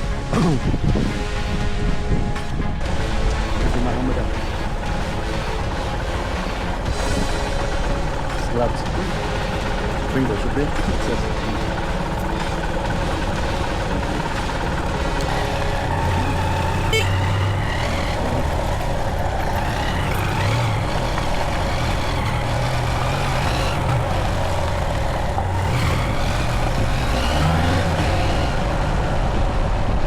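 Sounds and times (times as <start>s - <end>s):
wind noise on microphone: 0.0s - 9.2s, 10.4s - 30.0s
motorcycle engine revving: 0.0s - 30.0s.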